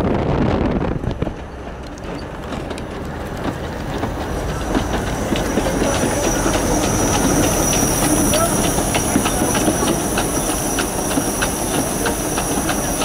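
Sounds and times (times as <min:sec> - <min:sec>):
steam locomotive passing: 0:00.0 - 0:13.0
train wheels clicking over rail joints: 0:00.6 - 0:13.0.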